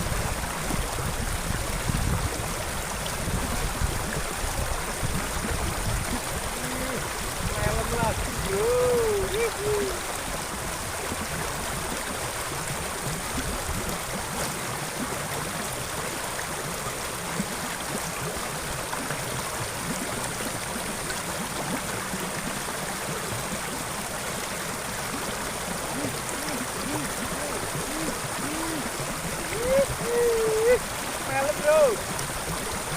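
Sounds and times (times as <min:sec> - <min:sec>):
water rushing along a ditch: 0:00.0 - 0:32.9.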